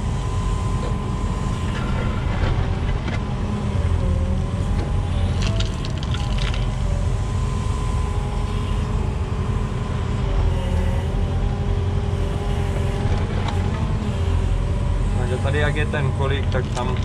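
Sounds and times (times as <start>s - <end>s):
diesel engine drone: 0.0s - 17.0s
hydraulic whine: 0.0s - 17.0s.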